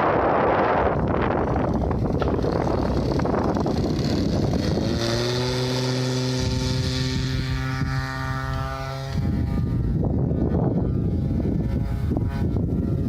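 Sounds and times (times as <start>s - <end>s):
model aeroplane engine droning: 0.0s - 13.0s
wind buffeting microphone: 0.0s - 13.0s.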